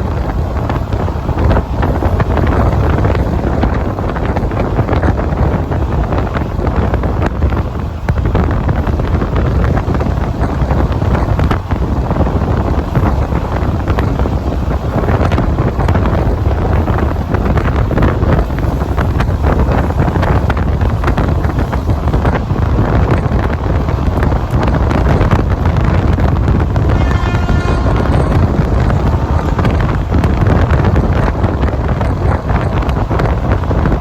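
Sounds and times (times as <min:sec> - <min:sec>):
moving train rush: 0:00.0 - 0:34.0
wind buffeting microphone: 0:00.0 - 0:34.0.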